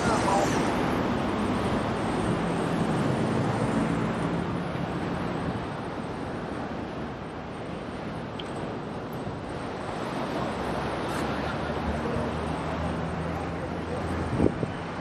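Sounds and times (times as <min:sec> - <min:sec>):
passing vehicle engine hum: 0:00.0 - 0:07.4, 0:09.6 - 0:15.0
street traffic noise: 0:00.0 - 0:15.0.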